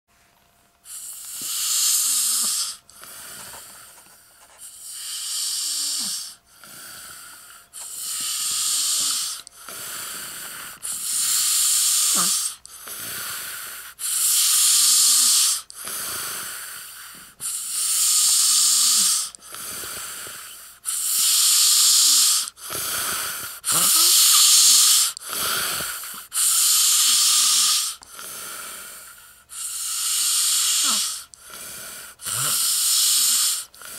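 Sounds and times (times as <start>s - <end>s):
person snoring: 0.9s - 4.0s, 4.6s - 33.9s.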